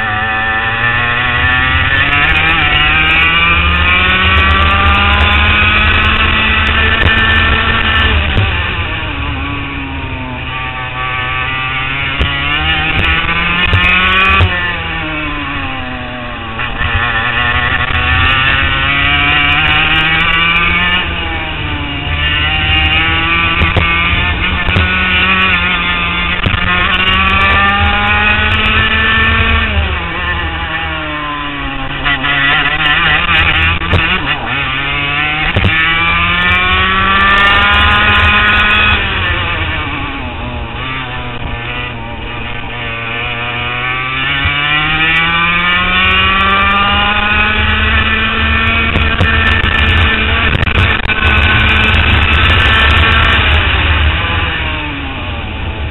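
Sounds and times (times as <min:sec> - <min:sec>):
kart engine revving: 0:00.0 - 0:55.9.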